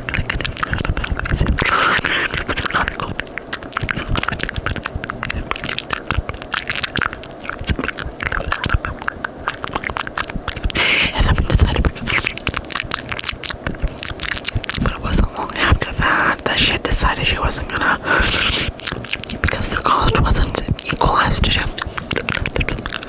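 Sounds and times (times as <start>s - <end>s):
breathy mouthing: 0.0s - 23.0s
wet mouth clicks and smacks: 0.0s - 23.0s.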